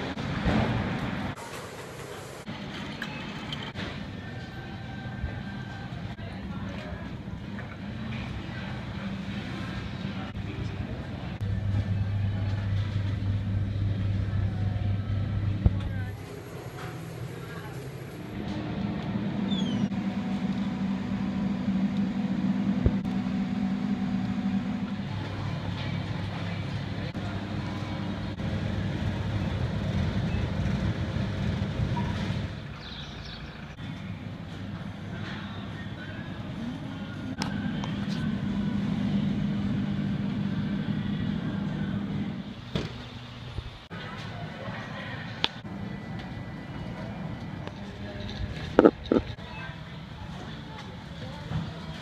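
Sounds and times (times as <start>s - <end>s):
refrigerated display case humming: 0.0s - 52.0s.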